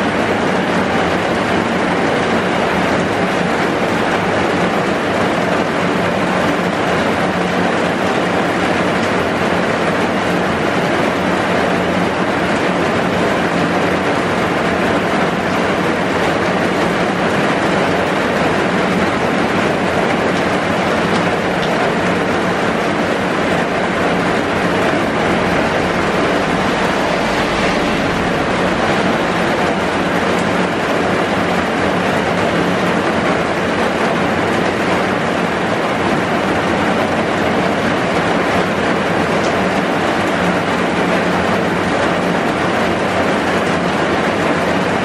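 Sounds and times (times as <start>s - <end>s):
heavy rain pouring: 0.0s - 45.0s.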